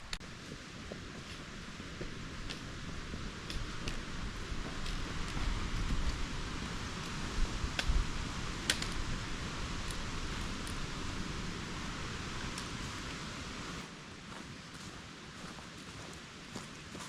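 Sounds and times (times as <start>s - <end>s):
wind rumble on microphone: 0.0s - 14.4s
rustling of hiker walking: 0.0s - 17.0s.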